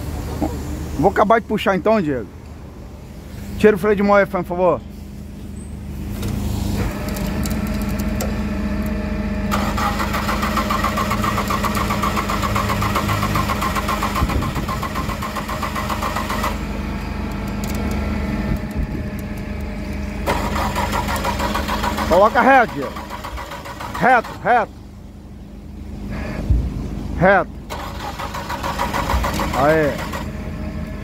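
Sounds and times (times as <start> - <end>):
tow truck engine running: 0.0 - 31.0.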